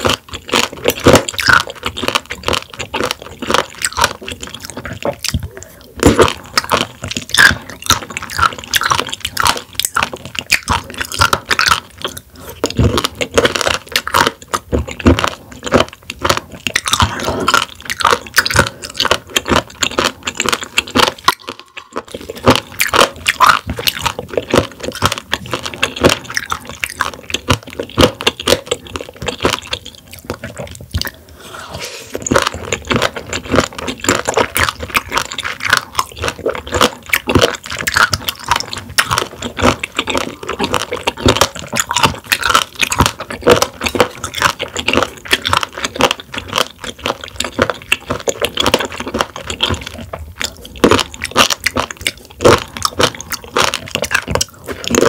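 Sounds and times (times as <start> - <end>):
wet chewing clicks: 0.0 - 31.4, 32.1 - 55.0.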